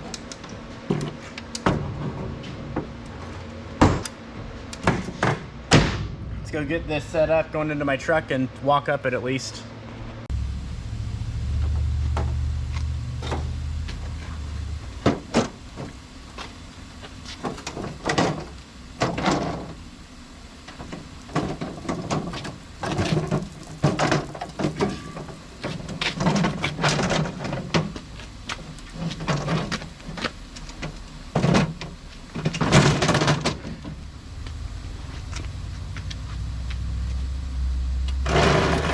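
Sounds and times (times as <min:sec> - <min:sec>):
low hum: 0:05.5 - 0:08.7, 0:09.6 - 0:38.9.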